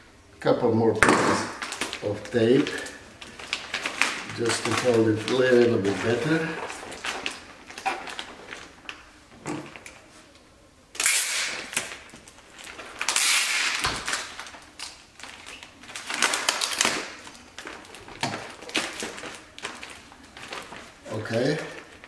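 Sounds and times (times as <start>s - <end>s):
plastic sheet rustling: 1.0s - 22.0s
packing tape ripping off roll: 1.1s - 10.0s, 11.0s - 22.0s.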